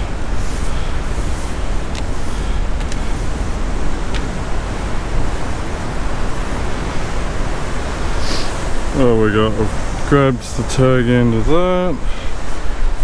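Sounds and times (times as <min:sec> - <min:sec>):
ocean swell: 0:00.0 - 0:13.0
wind buffeting microphone: 0:00.0 - 0:13.0
wind roaring: 0:00.0 - 0:13.0.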